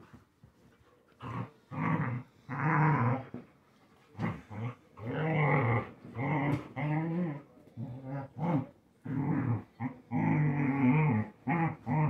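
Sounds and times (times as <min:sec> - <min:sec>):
dogs growling: 0:01.1 - 0:03.5, 0:04.2 - 0:12.0.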